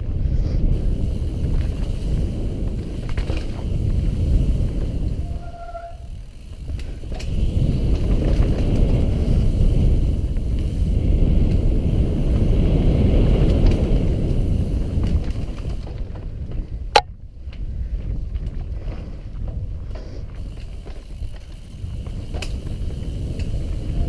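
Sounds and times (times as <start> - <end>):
bike rattles and clicks: 0.0 - 24.0
bike tyre noise on dirt: 0.0 - 24.0
wind buffeting microphone: 0.0 - 24.0.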